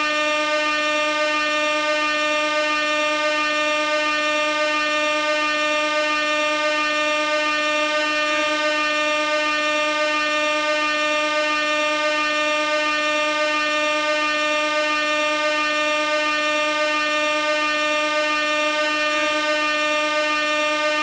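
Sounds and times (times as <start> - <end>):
air horn blast: 0.0 - 21.0.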